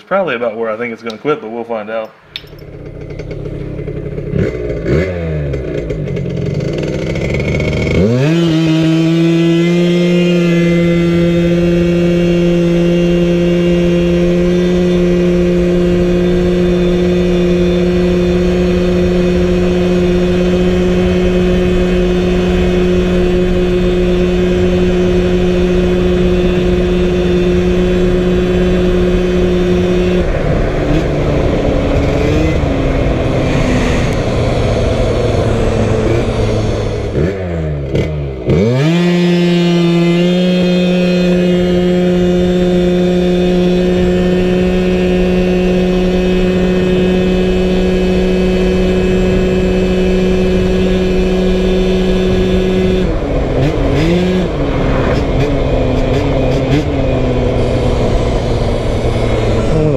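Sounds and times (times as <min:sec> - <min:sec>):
scooter engine high-pitched drone: 0:02.1 - 0:59.9.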